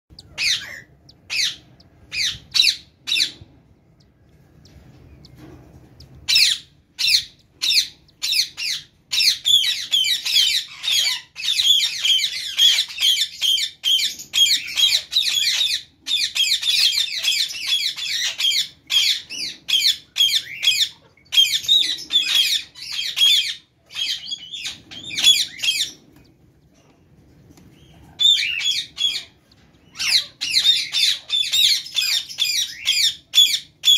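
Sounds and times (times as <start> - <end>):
cockatiels squawking: 0.1 - 3.4, 6.2 - 26.3, 27.6 - 33.9.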